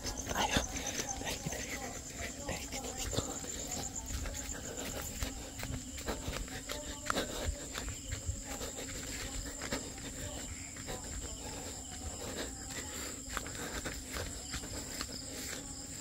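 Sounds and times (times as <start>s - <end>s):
crickets chirring: 0.0s - 16.0s
footsteps on grass: 0.0s - 16.0s.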